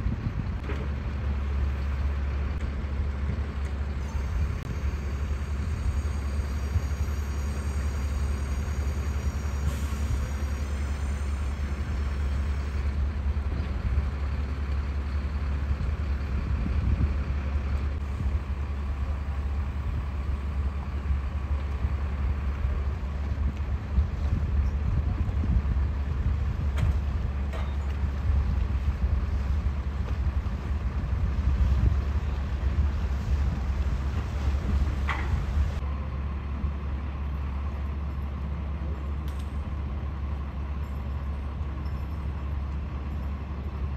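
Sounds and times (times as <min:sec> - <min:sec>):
boat engines rumbling: 0:00.0 - 0:43.9.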